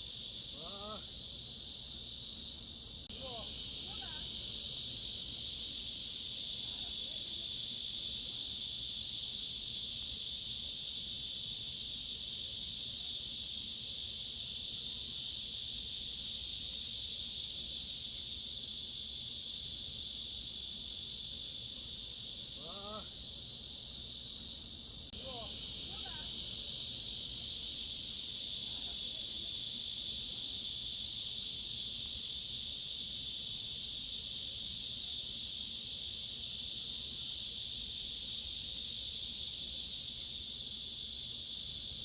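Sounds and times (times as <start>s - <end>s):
cicadas buzzing: 0.0s - 42.0s.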